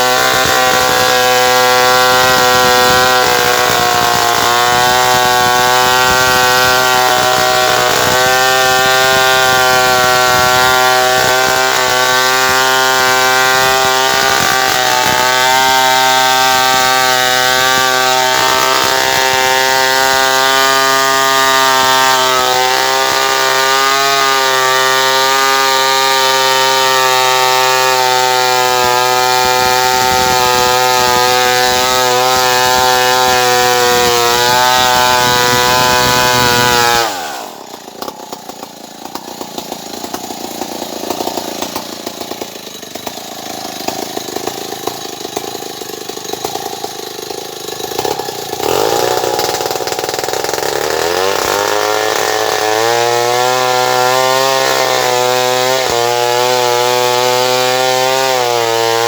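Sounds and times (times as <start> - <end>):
chainsaw running at high revs: 0.0 - 59.0.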